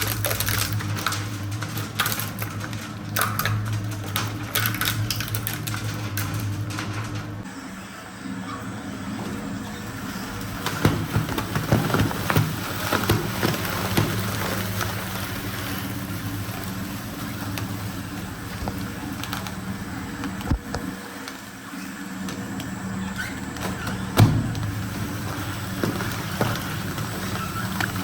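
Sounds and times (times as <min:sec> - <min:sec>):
material cracking and crunching: 0:00.0 - 0:07.5, 0:09.9 - 0:28.0
shredder motor hum: 0:00.0 - 0:28.0.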